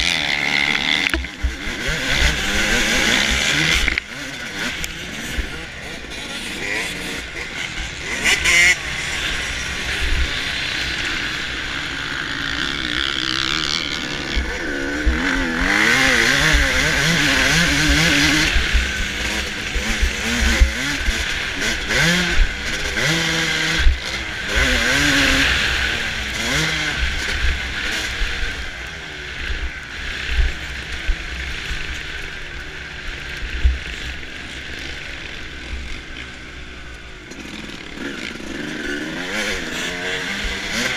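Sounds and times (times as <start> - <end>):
motocross engine revving: 0.0 - 40.9.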